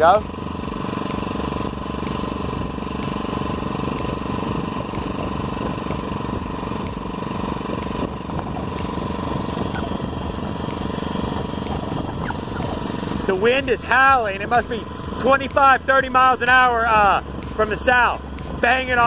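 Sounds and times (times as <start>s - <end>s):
small engine running: 0.0s - 19.0s
wind buffeting microphone: 0.0s - 19.0s.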